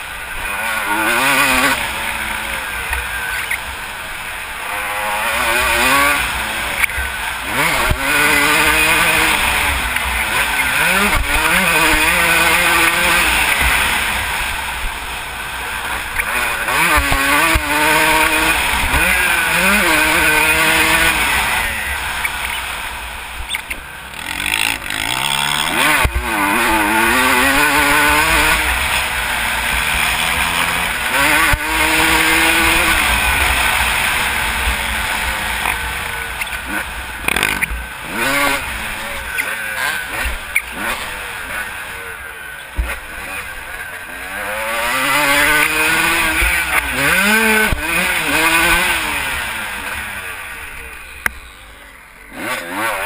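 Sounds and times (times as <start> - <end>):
motorbike engine revving: 0.0 - 53.0.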